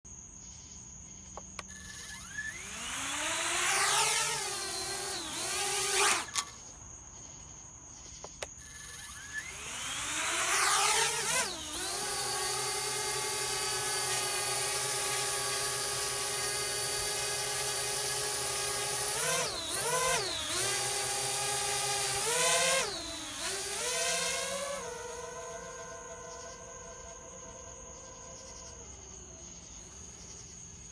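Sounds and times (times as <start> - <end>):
drone propellers whining: 1.6 - 6.6, 8.6 - 30.5.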